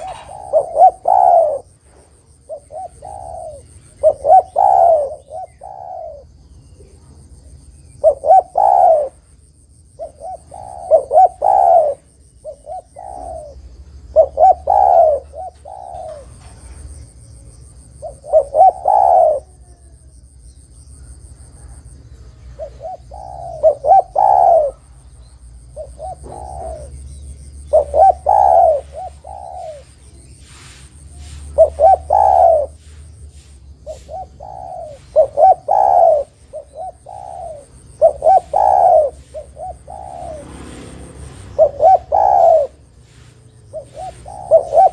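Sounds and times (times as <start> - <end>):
dove cooing: 0.0 - 9.3, 9.9 - 20.2, 21.0 - 44.9.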